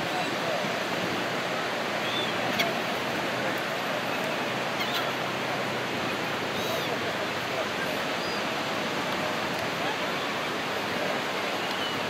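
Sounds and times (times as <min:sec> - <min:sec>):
ocean surf: 0:00.0 - 0:12.0.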